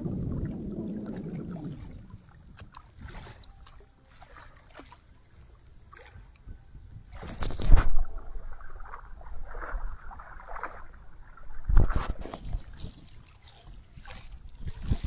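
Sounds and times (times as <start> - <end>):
wind rumble on microphone: 0.0 - 3.6, 5.7 - 15.0
waves lapping against rocks: 0.0 - 5.0, 7.1 - 15.0.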